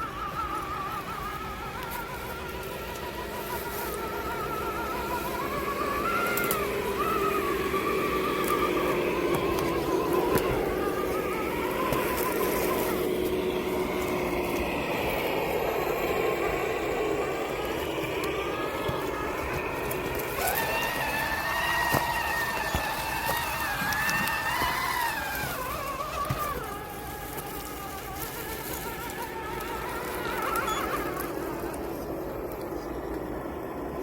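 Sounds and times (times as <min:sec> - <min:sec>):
electric motor and gearbox whining: 0:00.0 - 0:34.0.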